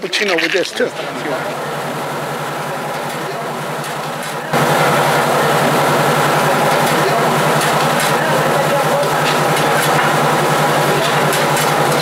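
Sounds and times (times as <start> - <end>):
electric mill humming: 1.0 - 12.0.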